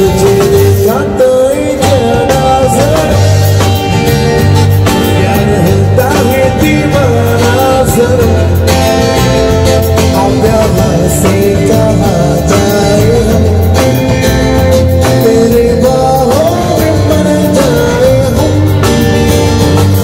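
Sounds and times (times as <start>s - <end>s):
bass guitar: 0.0s - 20.0s
drums playing steady beat: 0.0s - 20.0s
electric guitar: 0.0s - 20.0s.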